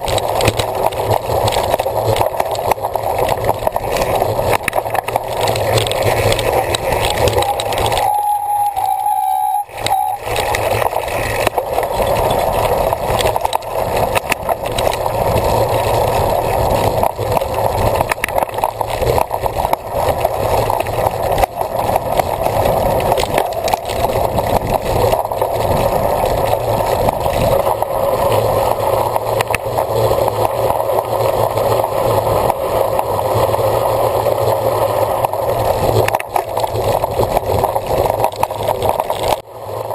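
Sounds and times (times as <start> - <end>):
bike rattles and clicks: 0.0 - 39.9
wind and tyre noise: 0.0 - 39.9.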